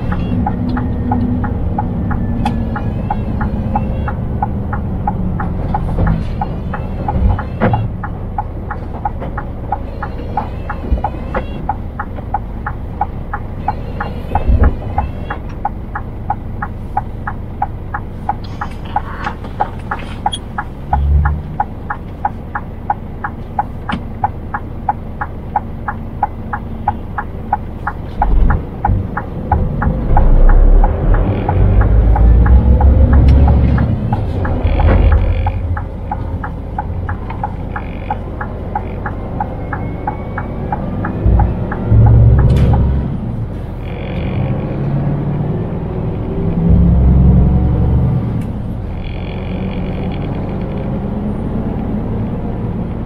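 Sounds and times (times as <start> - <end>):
truck engine and road rumble: 0.0 - 53.0
turn signal ticking: 0.0 - 53.0.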